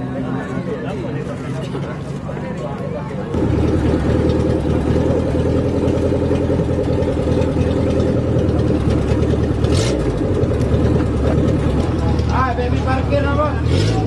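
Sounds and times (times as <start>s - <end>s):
vehicle engine running at low revs: 0.1s - 14.0s.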